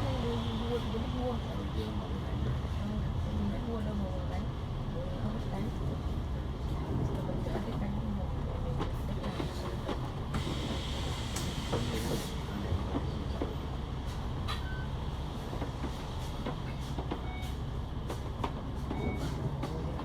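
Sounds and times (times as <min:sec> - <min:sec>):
bus rumbling in motion: 0:00.0 - 0:20.0.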